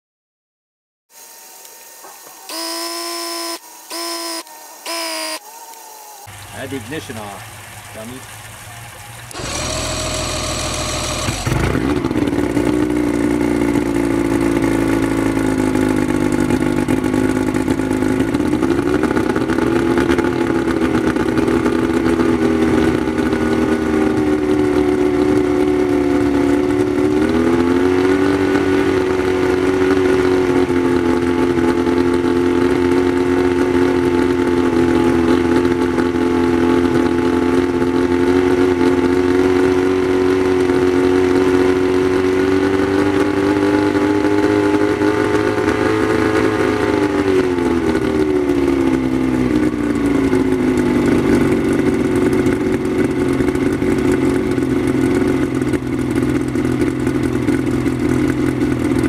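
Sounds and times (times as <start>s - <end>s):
outboard motor starting and idling: 2.5s - 5.4s, 6.2s - 59.0s.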